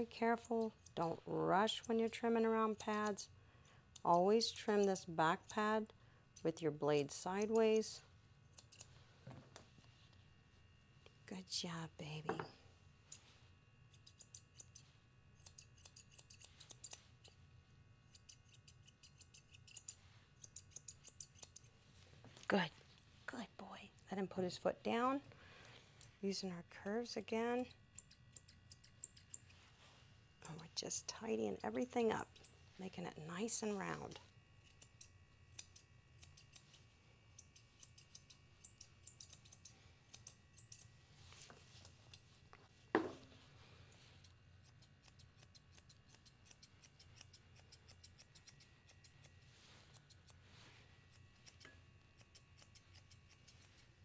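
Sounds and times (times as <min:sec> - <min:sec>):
shears snipping hair: 0:00.0 - 0:09.0, 0:13.0 - 0:23.1, 0:25.8 - 0:54.0.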